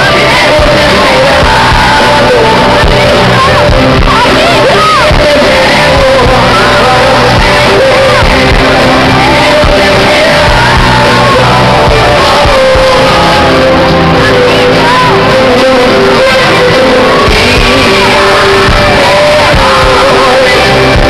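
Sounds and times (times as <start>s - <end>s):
rock band playing live: 0.0s - 21.0s
voices singing and shouting: 0.0s - 21.0s.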